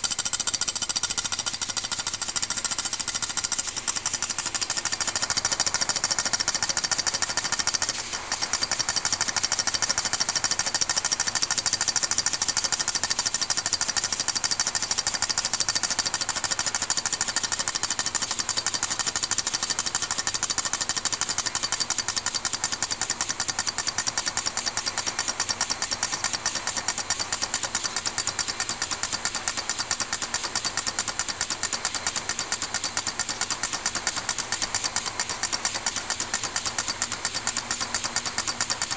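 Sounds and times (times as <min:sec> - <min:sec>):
model steam engine clattering: 0:00.0 - 0:38.9.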